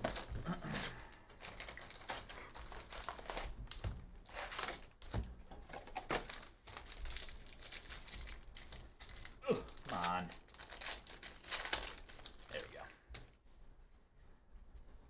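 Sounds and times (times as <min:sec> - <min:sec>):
plastic wrap and foil packs crinkling: 0:00.0 - 0:13.4.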